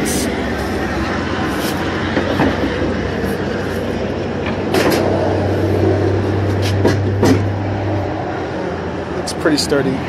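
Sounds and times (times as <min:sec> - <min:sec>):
machinery humming: 0:00.0 - 0:09.4.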